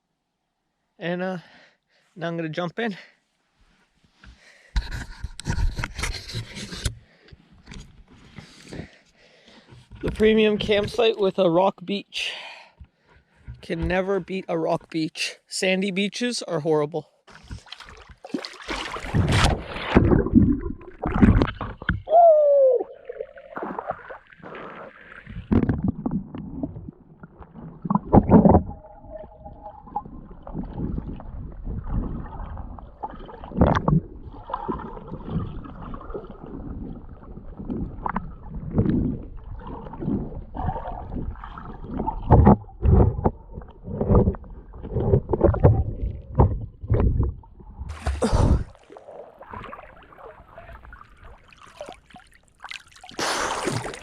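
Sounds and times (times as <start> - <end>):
water splashing and sloshing: 3.8 - 11.7, 12.7 - 15.0, 17.3 - 54.0.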